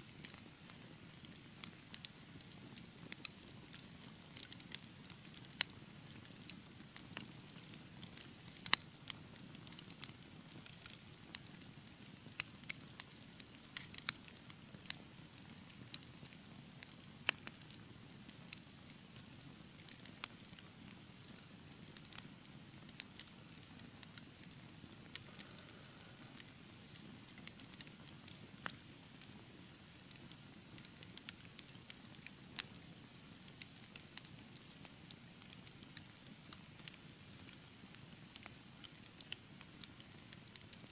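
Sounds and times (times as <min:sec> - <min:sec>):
wood fire crackling and popping: 0:00.1 - 0:40.9.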